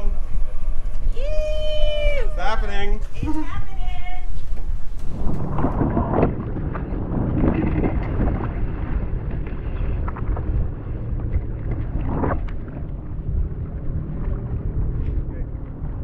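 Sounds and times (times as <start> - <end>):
wind buffeting microphone: 0.0 - 16.0
jet ski engine running: 2.2 - 16.0.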